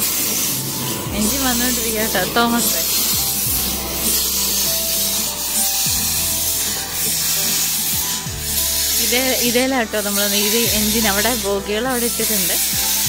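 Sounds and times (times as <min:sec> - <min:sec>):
background music: 0:00.0 - 0:13.0
steam locomotive puffing: 0:00.0 - 0:13.0.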